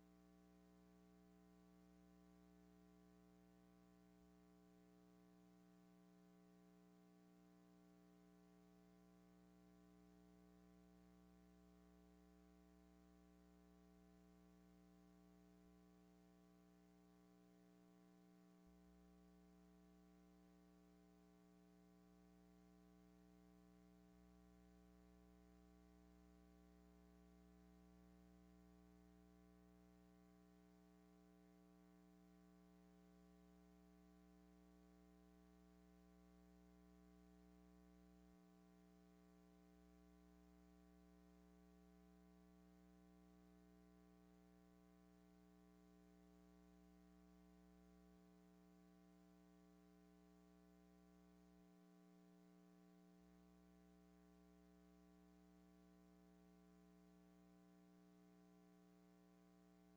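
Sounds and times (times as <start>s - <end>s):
faint electrical hum with hiss: 0.0s - 59.9s.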